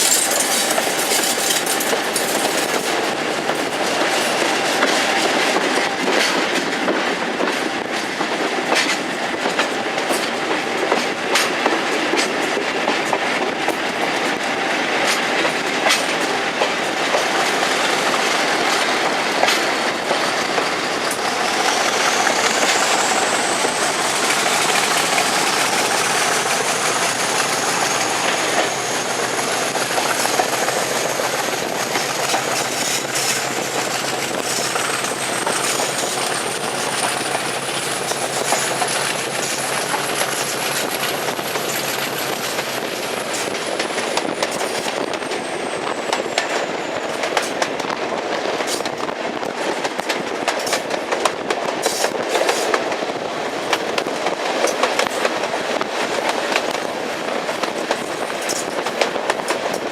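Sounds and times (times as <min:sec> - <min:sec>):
train wheels clicking over rail joints: 0:00.0 - 0:59.9.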